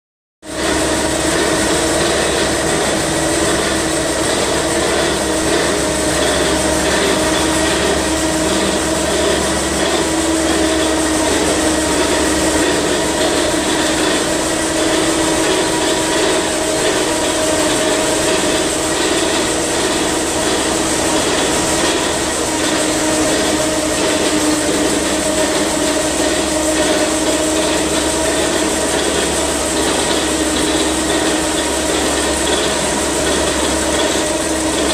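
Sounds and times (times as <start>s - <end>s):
engine driving air compressor: 0.4s - 34.9s.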